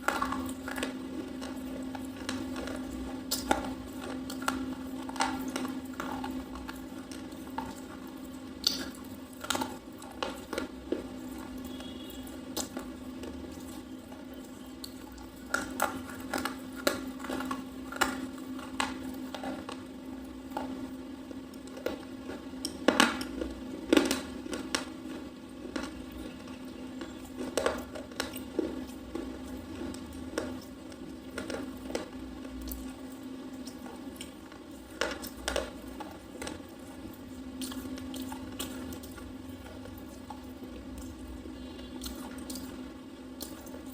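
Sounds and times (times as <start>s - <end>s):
crunching and chewing: 0.0s - 43.9s
steady low hum: 0.0s - 43.9s.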